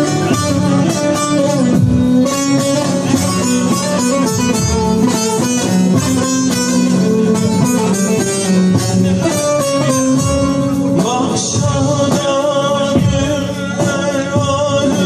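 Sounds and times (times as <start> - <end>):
man singing: 0.0 - 15.0
plucked lute folk music: 0.0 - 15.0.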